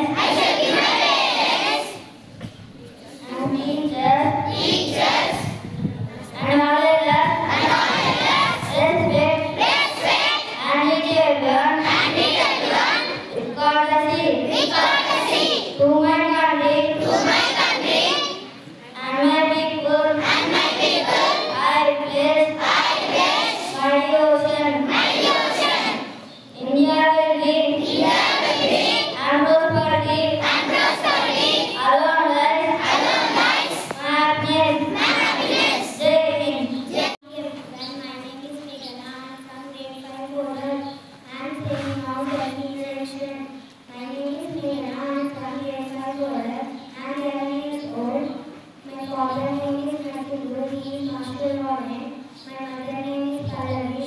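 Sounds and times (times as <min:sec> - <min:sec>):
children's voices joining in: 0:00.0 - 0:54.0
child singing into a microphone: 0:03.2 - 0:54.0.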